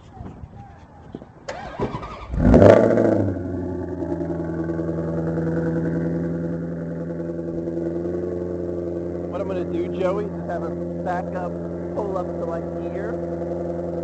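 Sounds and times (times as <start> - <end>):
car engine starting and idling: 1.4 - 14.0.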